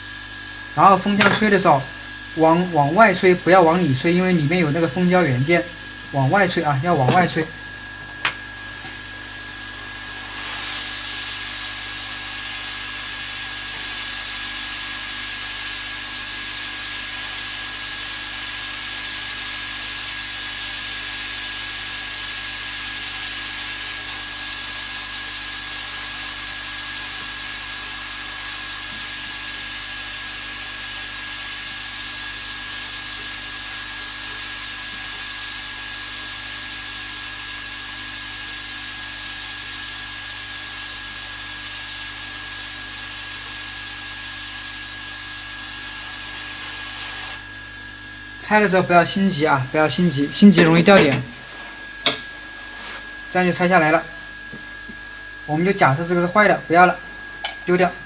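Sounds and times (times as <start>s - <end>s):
hot air station hissing: 0.0s - 58.0s.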